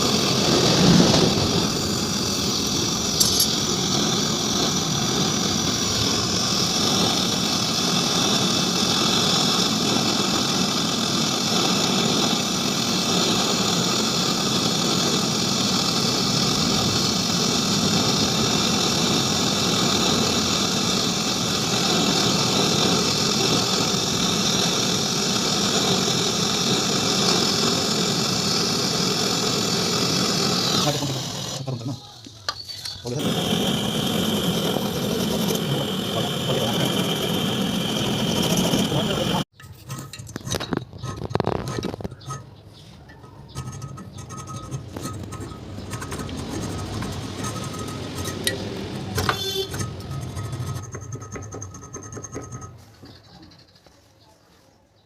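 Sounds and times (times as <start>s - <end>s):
machine motor running: 0.0s - 31.9s, 33.1s - 39.5s, 44.5s - 52.6s.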